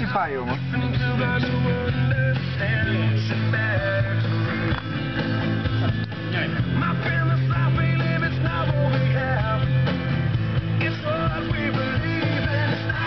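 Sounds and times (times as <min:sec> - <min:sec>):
rock music on car audio: 0:00.0 - 0:13.0.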